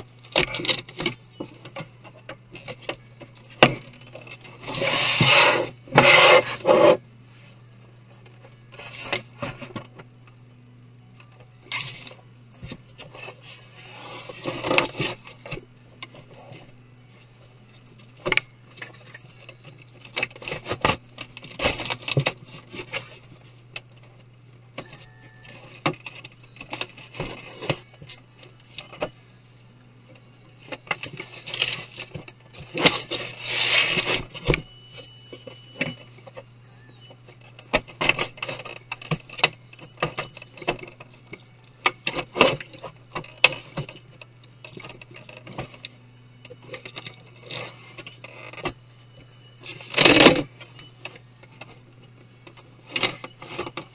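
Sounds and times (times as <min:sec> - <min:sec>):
scraping on plastic and metal: 0:00.0 - 0:07.0, 0:11.6 - 0:16.8, 0:17.8 - 0:24.2, 0:24.8 - 0:29.2, 0:30.6 - 0:53.9
steady low hum: 0:00.0 - 0:53.9.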